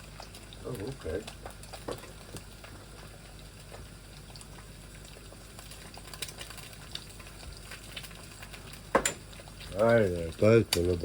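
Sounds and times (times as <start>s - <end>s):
eggs sizzling in a pan: 0.0s - 11.0s
small pops and crackles: 0.0s - 11.0s.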